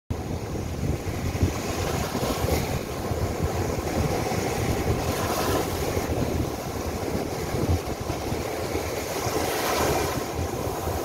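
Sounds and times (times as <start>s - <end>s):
surf washing up a beach: 0.1s - 11.0s
wind buffeting microphone: 0.1s - 11.0s.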